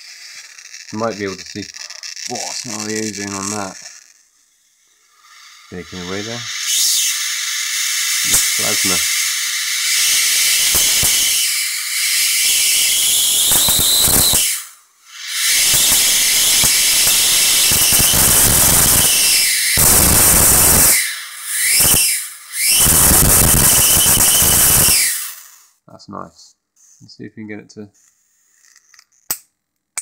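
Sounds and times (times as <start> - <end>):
high-voltage arc hissing: 0.0 - 25.4.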